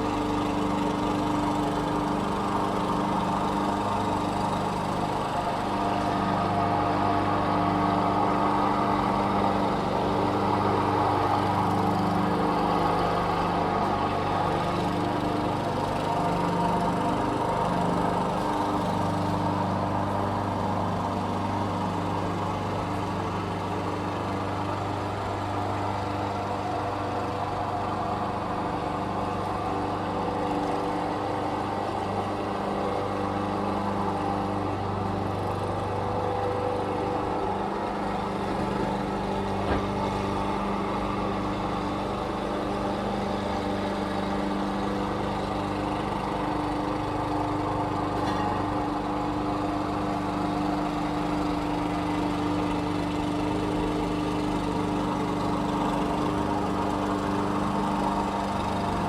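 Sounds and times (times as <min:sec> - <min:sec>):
lawn mower running: 0:00.0 - 0:59.0.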